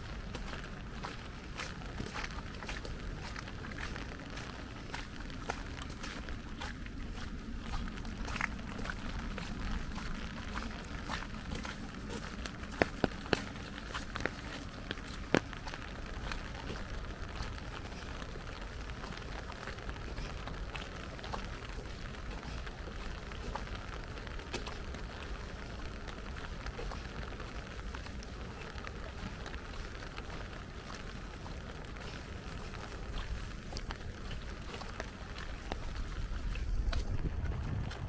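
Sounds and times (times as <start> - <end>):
light rain pattering: 0.0 - 38.0.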